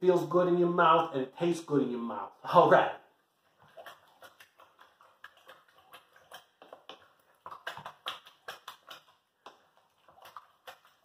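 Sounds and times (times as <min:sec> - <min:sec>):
spoon stirring thick chili: 0:00.0 - 0:11.0.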